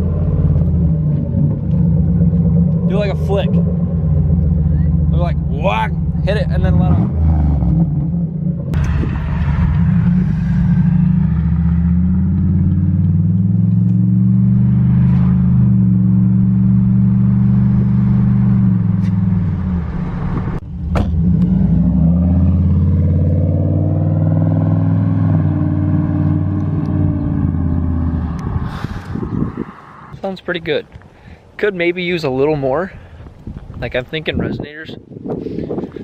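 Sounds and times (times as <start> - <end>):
car engine revving: 0.0 - 30.2.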